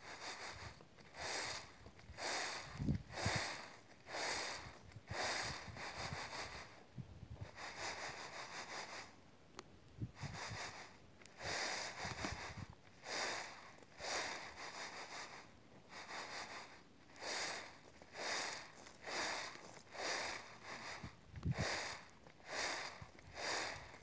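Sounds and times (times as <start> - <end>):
beans rattling in winnowing tray: 0.0 - 6.7, 10.4 - 24.0.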